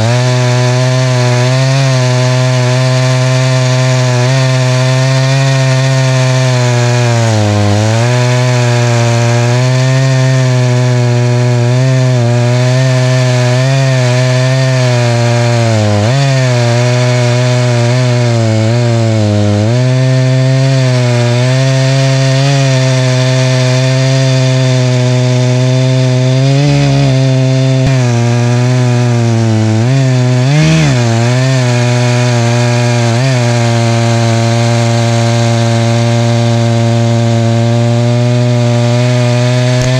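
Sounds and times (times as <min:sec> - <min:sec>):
chainsaw cutting log at high revs: 0:00.0 - 0:39.9.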